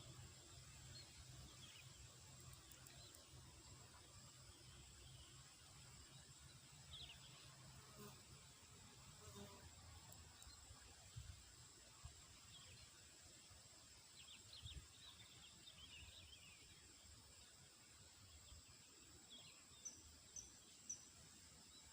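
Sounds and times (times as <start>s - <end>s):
faint field ambience: 0.0s - 21.9s.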